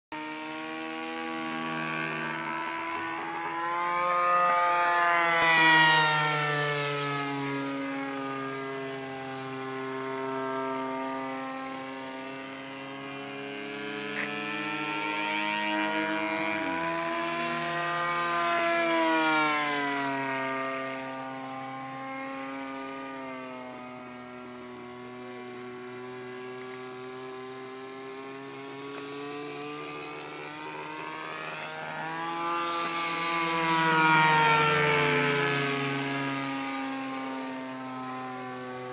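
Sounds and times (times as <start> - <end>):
model plane engine buzzing: 0.1 - 38.9.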